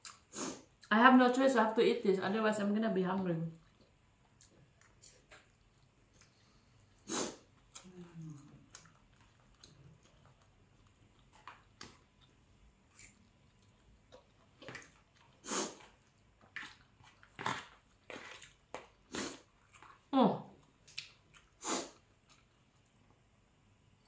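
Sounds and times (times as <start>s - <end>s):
person chewing: 0.0s - 0.9s, 3.5s - 23.2s.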